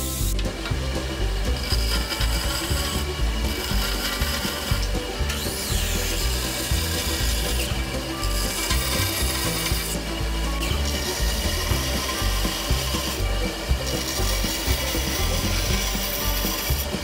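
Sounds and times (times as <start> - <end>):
band saw cutting wood: 0.0 - 17.0.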